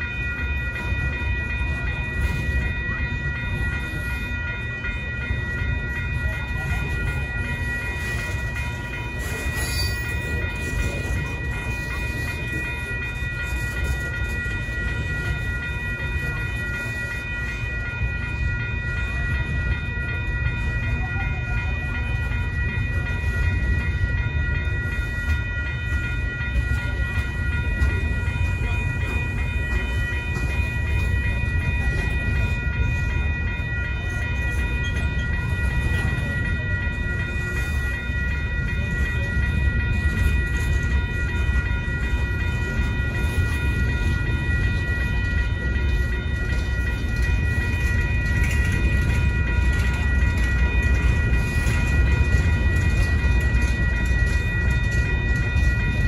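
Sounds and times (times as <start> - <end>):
crossing bell ringing: 0.0 - 56.0
freight train wheels rumbling: 0.0 - 56.0.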